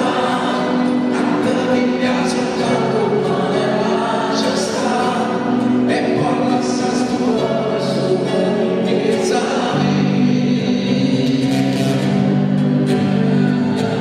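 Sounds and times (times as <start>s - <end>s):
man singing: 0.0s - 14.0s
strummed acoustic guitar: 0.0s - 14.0s.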